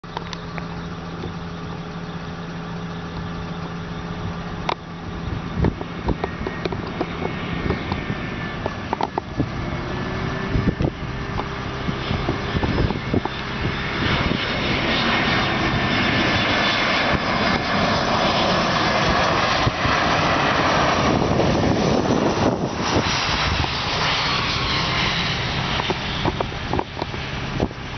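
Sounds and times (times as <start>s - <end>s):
jet engines rumbling with fan whine: 0.0s - 27.9s.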